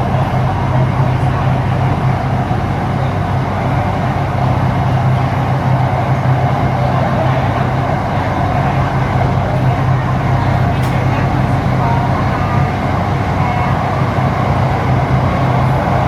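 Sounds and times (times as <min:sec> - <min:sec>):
train running with low hum: 0:00.0 - 0:16.0.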